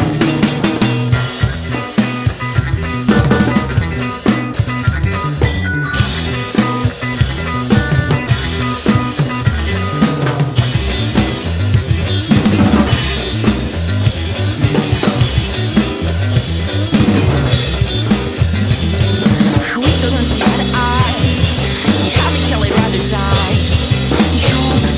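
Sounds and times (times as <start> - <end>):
drum kit playing: 0.0 - 24.9
recorded rock song: 0.0 - 24.9.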